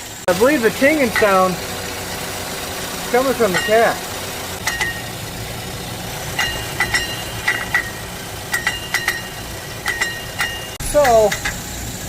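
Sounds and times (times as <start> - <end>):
car engine idling: 0.0 - 12.0
metallic pinging: 0.7 - 12.0.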